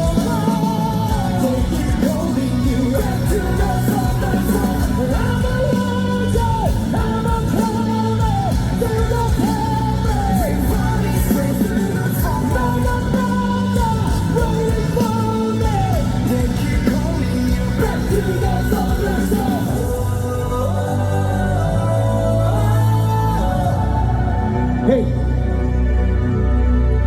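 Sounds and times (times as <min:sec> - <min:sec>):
person singing: 0:00.0 - 0:25.8
rock band playing live: 0:00.0 - 0:26.6.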